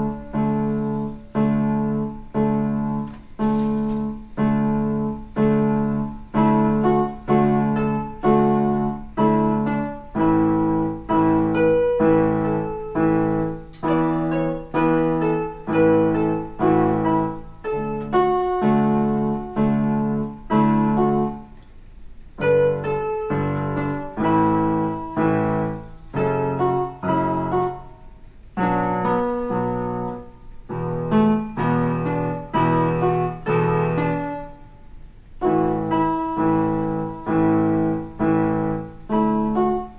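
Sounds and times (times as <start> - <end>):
electronic keyboard piano chords: 0.0 - 39.9.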